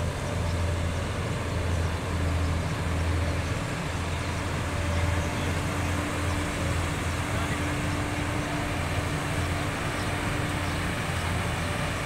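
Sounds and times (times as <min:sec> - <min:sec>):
heavy diesel truck engines droning: 0:00.0 - 0:12.0.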